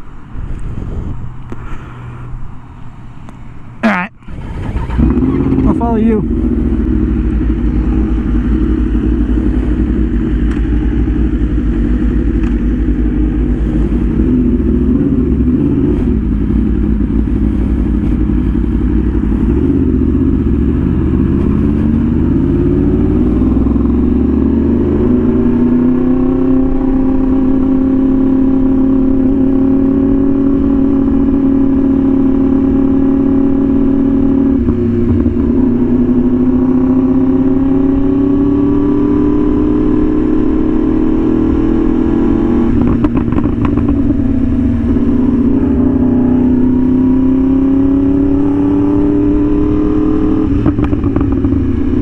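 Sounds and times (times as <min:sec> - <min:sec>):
motorcycle engine accelerating: 0:03.9 - 0:52.0.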